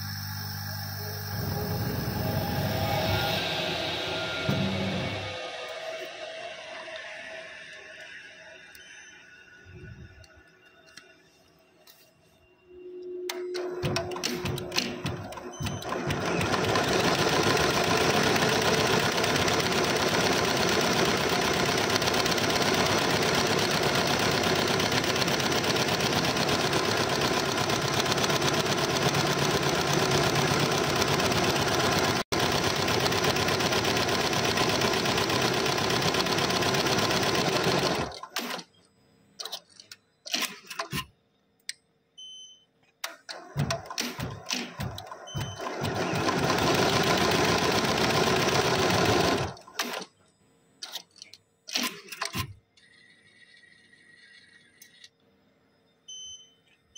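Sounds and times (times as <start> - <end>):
machine clicks and whirs: 0.0 - 12.0, 12.8 - 41.9, 42.8 - 55.4.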